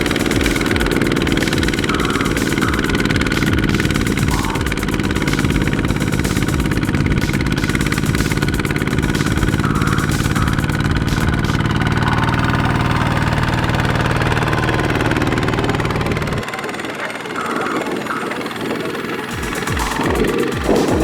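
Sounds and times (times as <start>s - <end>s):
hand tractor engine running: 0.0s - 21.0s.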